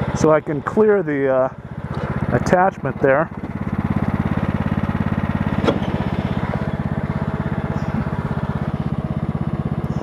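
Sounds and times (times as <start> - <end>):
lawn tractor engine running: 0.0 - 10.0.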